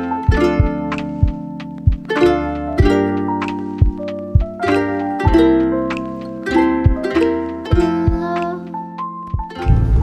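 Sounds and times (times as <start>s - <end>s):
low beat: 0.0s - 8.6s, 9.3s - 10.0s
plucked-string melody: 0.0s - 10.0s.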